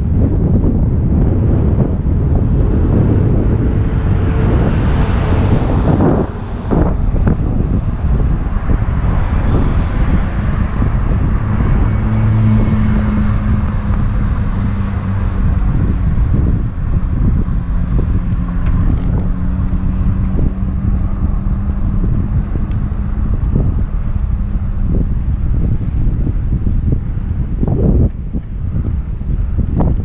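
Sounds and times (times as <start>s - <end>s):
low engine hum: 0.0s - 30.0s
wind buffeting microphone: 0.0s - 30.0s.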